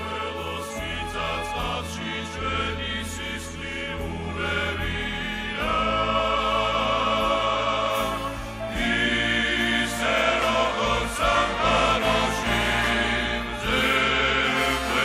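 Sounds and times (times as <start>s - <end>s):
male choir singing chords: 0.0s - 15.0s
orchestral strings: 0.0s - 15.0s.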